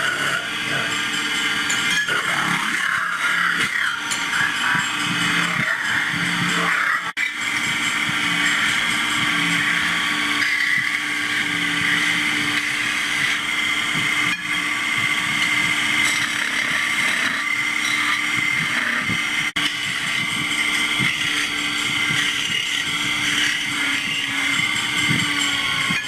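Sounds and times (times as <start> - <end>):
factory machinery whirring: 0.0 - 26.0.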